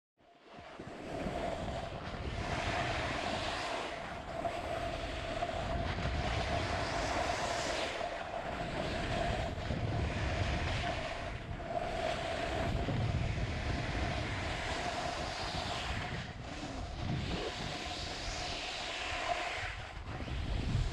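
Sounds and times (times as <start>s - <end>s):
steady mid-pitched hum: 0.8s - 20.9s
wind buffeting microphone: 0.8s - 20.9s.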